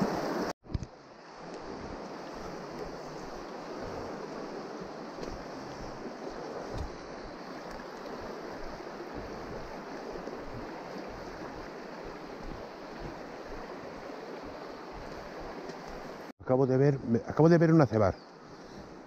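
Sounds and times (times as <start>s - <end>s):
river running over stones: 0.0s - 16.3s.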